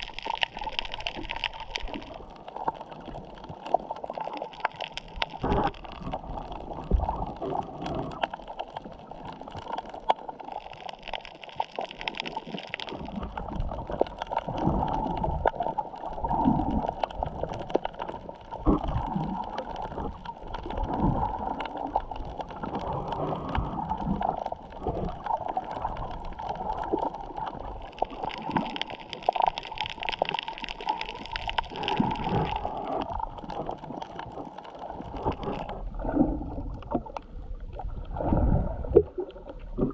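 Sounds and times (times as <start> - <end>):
faint crackles: 0.0 - 39.9
muffled underwater gurgling: 0.0 - 39.9.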